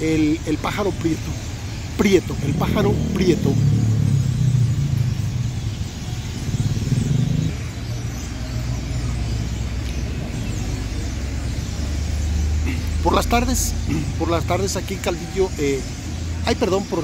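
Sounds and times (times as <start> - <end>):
flock of birds chattering: 0.0 - 17.0
road traffic rumble: 0.0 - 17.0.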